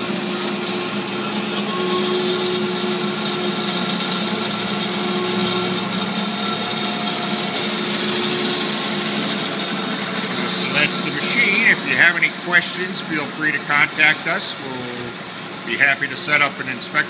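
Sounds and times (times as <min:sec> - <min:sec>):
band saw running: 0:00.0 - 0:17.0.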